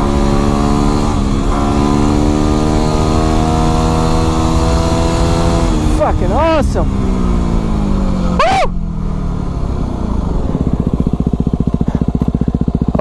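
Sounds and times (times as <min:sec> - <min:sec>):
motorcycle engine winding down: 0:00.0 - 0:13.0.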